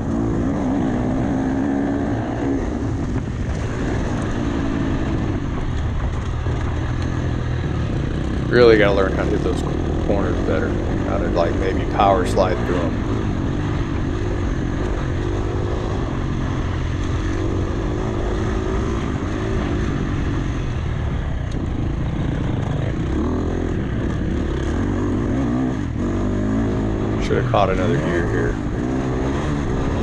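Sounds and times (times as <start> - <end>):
dirt bike engine revving: 0.0 - 30.0
wind rush on microphone: 0.0 - 30.0.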